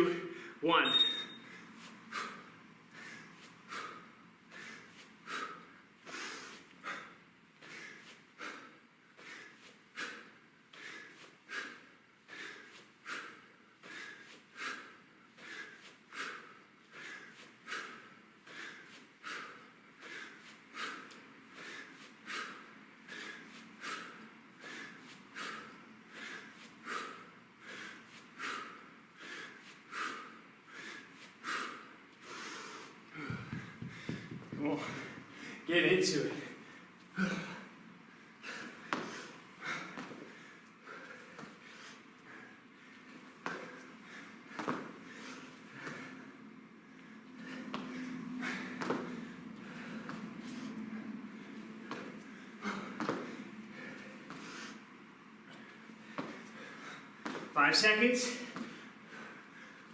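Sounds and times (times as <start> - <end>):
man breathing hard: 0.0 - 0.6, 1.4 - 59.9.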